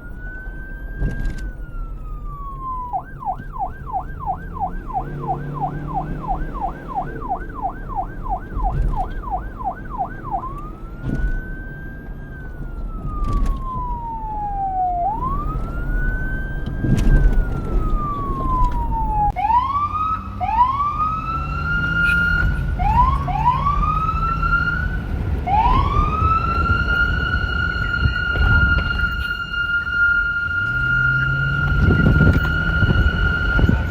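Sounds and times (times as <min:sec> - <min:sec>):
police siren: 0:00.0 - 0:33.9.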